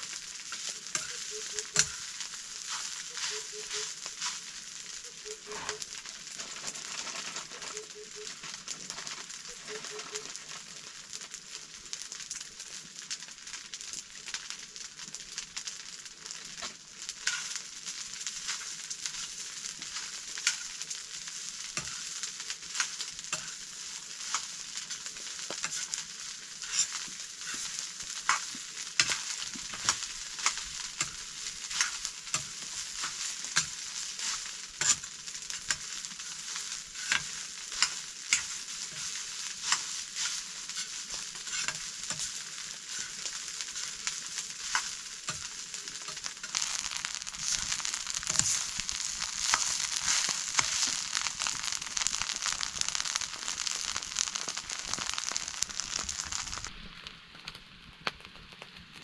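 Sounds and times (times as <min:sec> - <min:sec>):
stirring clicks and scrapes: 0:00.0 - 0:10.7, 0:16.6 - 0:56.7
rice sizzling in pan: 0:00.0 - 0:59.0.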